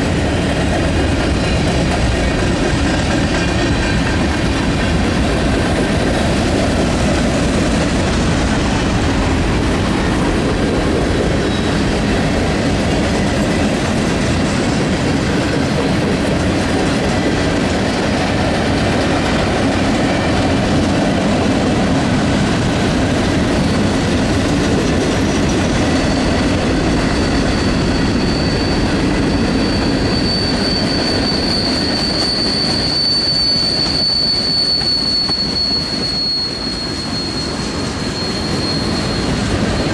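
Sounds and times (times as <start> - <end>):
train wheels rumbling on rail: 0.0 - 39.9
high wheel squeal: 0.9 - 39.9.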